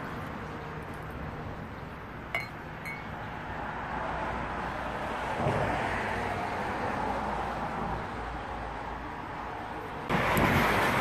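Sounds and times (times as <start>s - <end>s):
low traffic hum: 0.0s - 11.0s.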